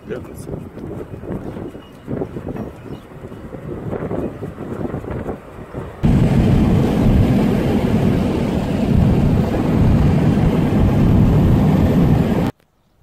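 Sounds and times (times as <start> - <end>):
car engine and road noise: 0.8 - 12.6.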